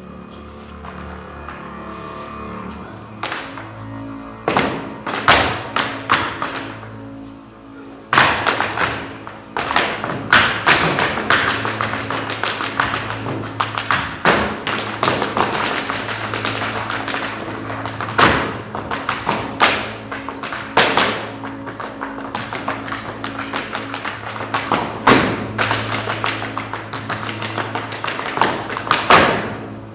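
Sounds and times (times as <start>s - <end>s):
low musical drone: 0.0s - 29.9s
feet tapping and stamping on stage: 3.2s - 3.7s, 4.4s - 6.8s, 8.1s - 29.8s.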